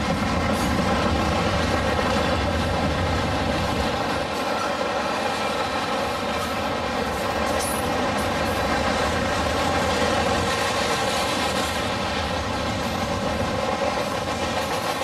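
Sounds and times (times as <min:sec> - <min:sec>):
steel wheels rolling on rail: 0:00.0 - 0:15.0.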